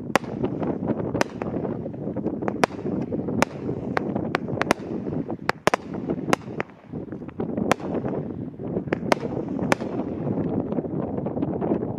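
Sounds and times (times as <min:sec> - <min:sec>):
firework cracks: 0:00.0 - 0:10.9
wind on microphone: 0:00.0 - 0:11.9.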